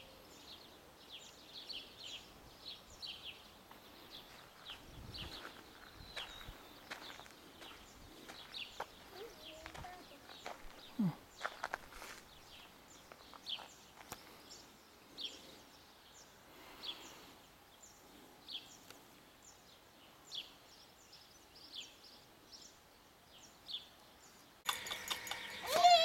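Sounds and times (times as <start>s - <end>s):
light outdoor hiss: 0.0s - 26.0s
outdoor background noise: 0.0s - 26.0s
small birds chirping: 0.0s - 26.0s.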